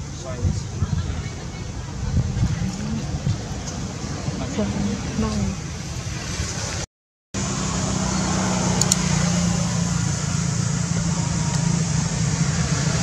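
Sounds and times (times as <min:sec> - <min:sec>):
even background noise: 0:00.0 - 0:13.0.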